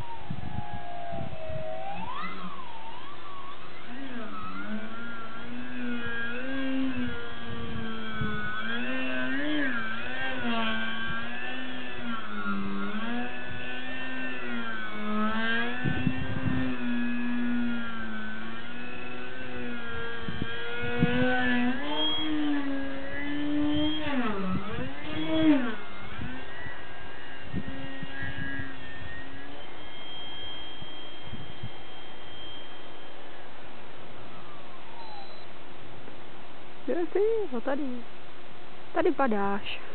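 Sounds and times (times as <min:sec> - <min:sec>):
wind buffeting microphone: 0:00.0 - 0:32.2
model plane motor buzzing: 0:00.0 - 0:39.9.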